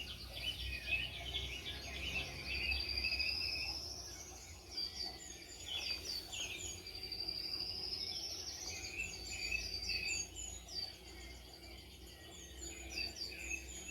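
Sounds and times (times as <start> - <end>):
birds chirping and singing: 0.0 - 13.9.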